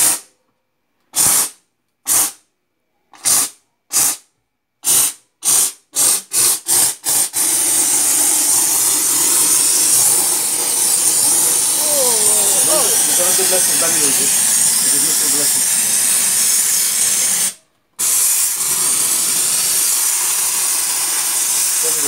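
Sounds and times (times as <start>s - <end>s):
steam cleaner spitting and hissing: 0.0s - 0.2s, 1.1s - 2.4s, 3.2s - 22.0s.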